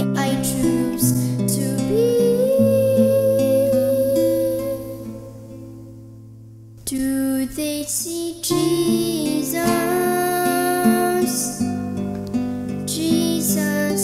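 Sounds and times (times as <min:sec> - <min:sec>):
girl singing: 0:00.0 - 0:05.9, 0:06.8 - 0:12.1, 0:12.8 - 0:14.0
acoustic guitar: 0:00.0 - 0:14.0.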